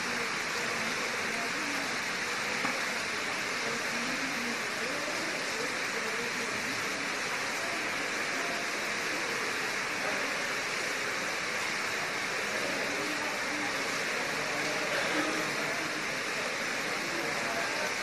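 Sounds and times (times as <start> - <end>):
faint distant voices: 0.0 - 18.0
steady background hiss: 0.0 - 18.0.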